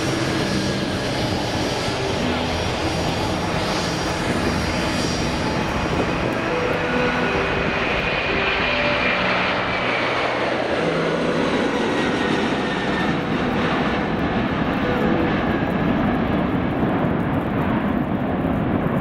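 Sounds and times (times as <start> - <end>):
jet engines at takeoff power: 0.0 - 19.0.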